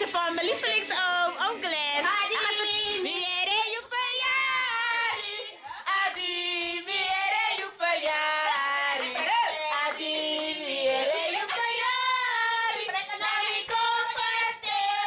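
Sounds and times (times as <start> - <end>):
children and women singing: 0.0 - 15.0.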